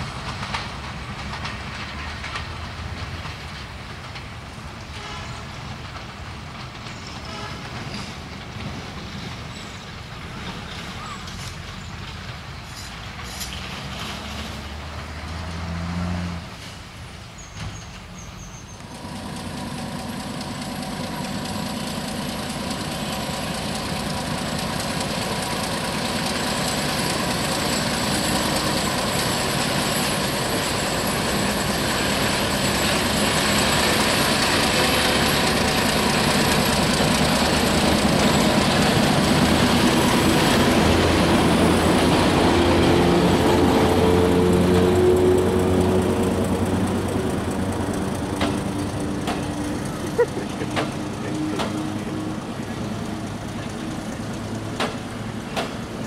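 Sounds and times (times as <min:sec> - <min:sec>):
diesel locomotive engine running: 0:00.0 - 0:56.0
train coaches rolling on rails: 0:00.0 - 0:56.0.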